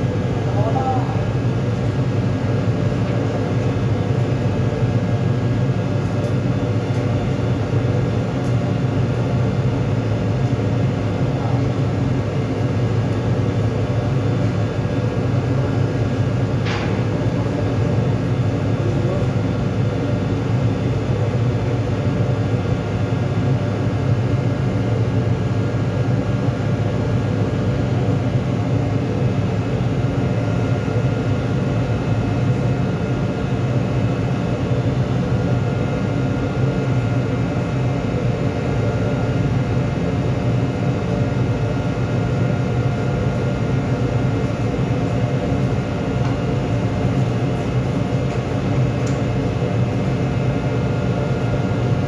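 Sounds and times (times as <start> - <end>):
ship machinery drone: 0.0 - 52.0.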